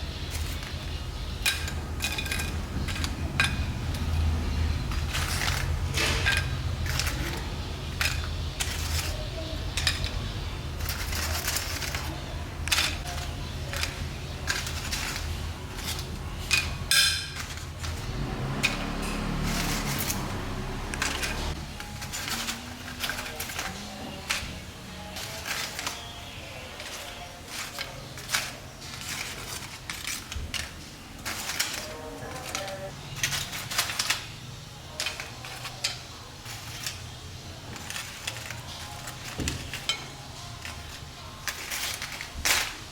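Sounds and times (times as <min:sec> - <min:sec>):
utensils and dishes clinking: 0:00.0 - 0:42.9.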